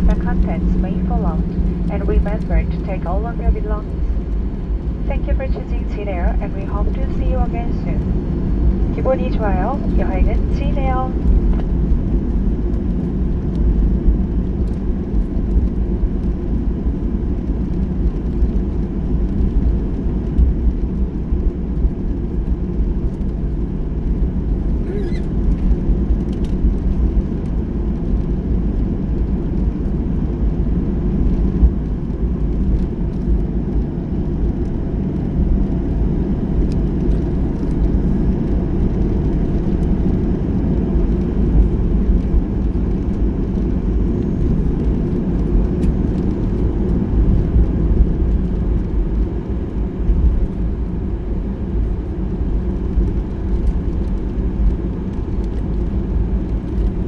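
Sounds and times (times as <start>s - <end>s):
aircraft cabin rumble while taxiing: 0.0s - 57.0s.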